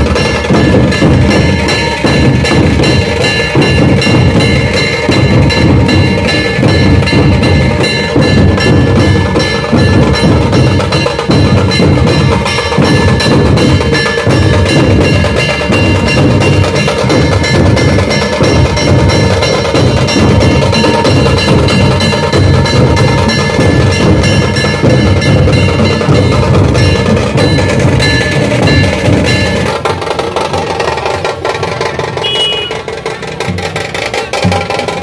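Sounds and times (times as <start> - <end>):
metallic ringing: 0.0 - 33.4
dhol drums playing fast rhythm: 0.0 - 35.0.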